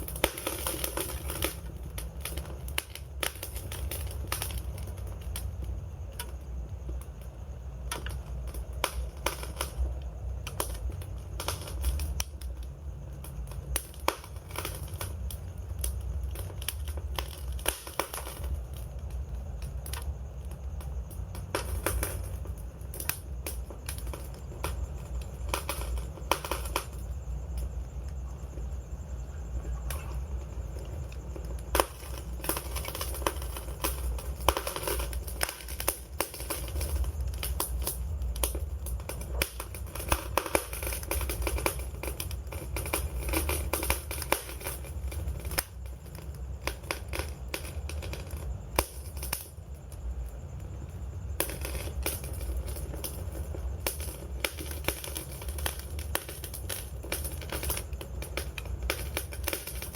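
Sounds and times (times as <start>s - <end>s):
sharp loud pops of fire: 0.0s - 59.9s
wood fire crackling: 0.0s - 59.9s.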